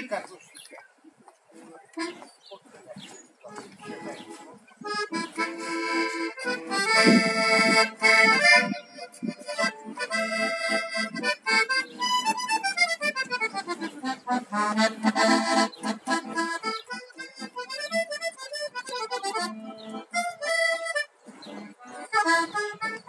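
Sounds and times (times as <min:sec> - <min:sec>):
accordion playing a tune: 0:01.5 - 0:23.0.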